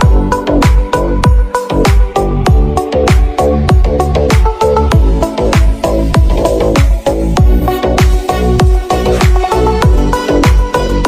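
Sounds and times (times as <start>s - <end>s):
kick drum beat: 0.0s - 11.0s
sustained synth chords: 0.0s - 11.0s.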